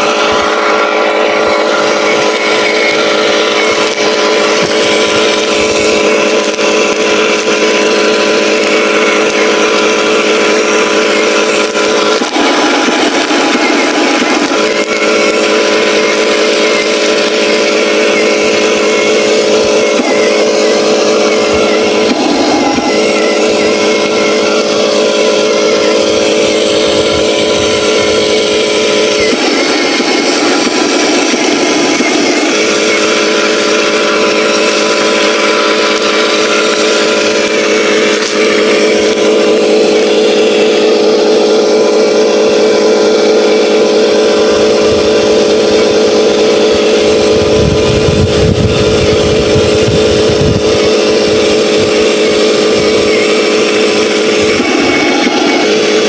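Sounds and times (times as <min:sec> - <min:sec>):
toy truck engine drone: 0:00.0 - 0:56.0.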